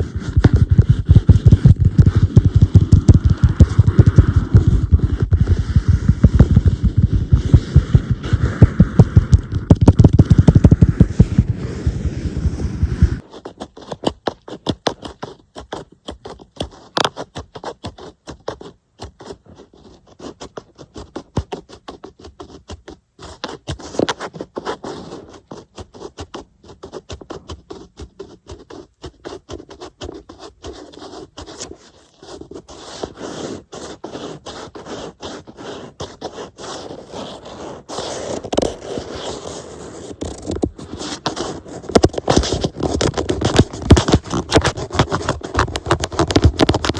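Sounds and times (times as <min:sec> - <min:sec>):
tapping and scratching on tablet: 0:00.0 - 0:46.9.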